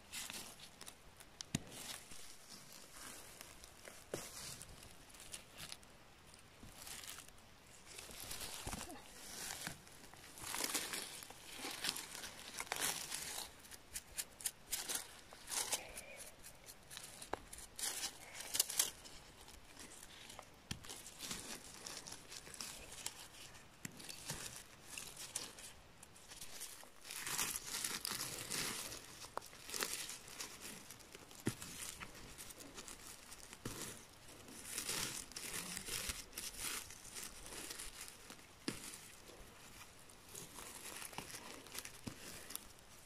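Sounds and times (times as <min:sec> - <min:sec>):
hands rustling through moss: 0:00.0 - 0:43.0.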